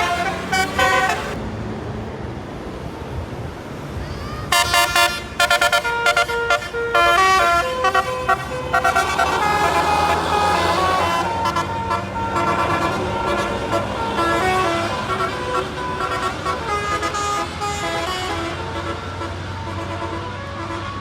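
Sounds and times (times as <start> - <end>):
multi-tone bus horn tooting: 0.0 - 1.4, 4.2 - 21.0
bus engine running: 0.0 - 21.0.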